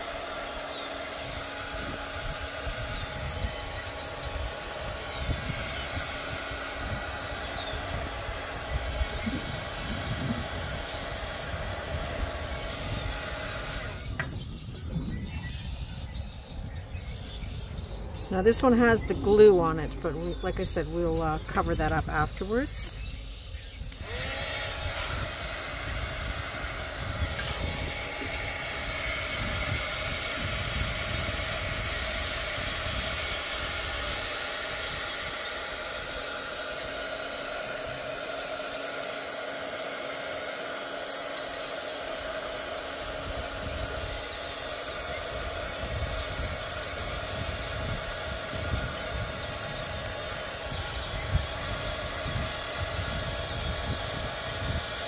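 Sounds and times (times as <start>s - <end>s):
heat gun blowing air: 0.0s - 14.7s, 23.8s - 55.0s.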